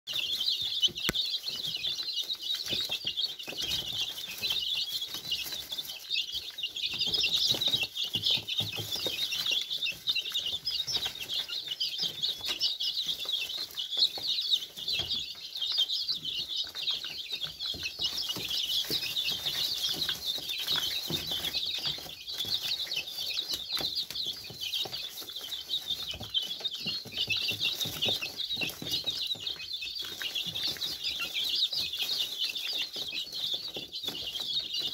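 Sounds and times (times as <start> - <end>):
beaks tapping plastic feeder: 0.1 - 34.9
chicks peeping: 0.1 - 34.9.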